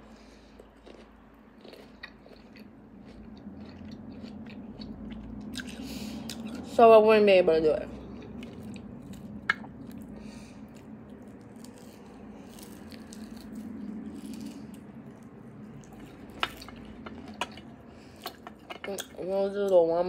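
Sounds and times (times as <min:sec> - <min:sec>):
wet chewing and sucking: 0:00.0 - 0:06.7, 0:08.0 - 0:18.8.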